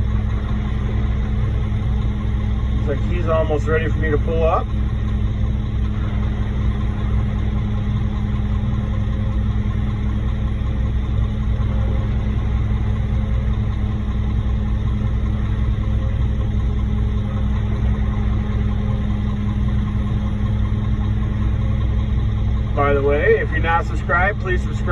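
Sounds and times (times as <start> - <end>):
diesel truck engine idling: 0.0 - 24.9.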